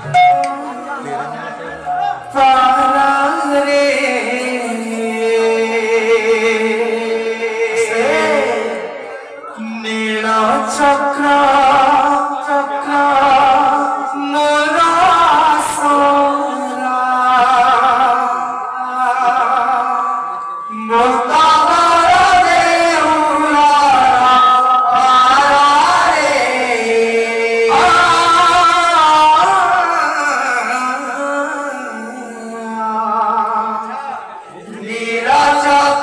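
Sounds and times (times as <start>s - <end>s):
group singing: 0.0s - 36.0s.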